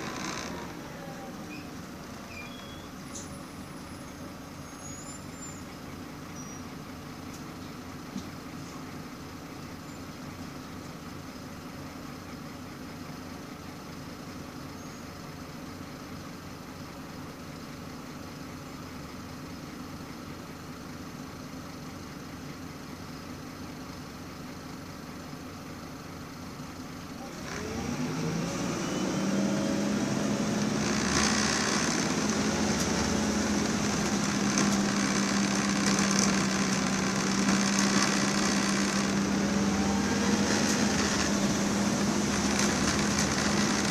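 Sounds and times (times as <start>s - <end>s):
bus diesel engine: 0.0s - 43.9s.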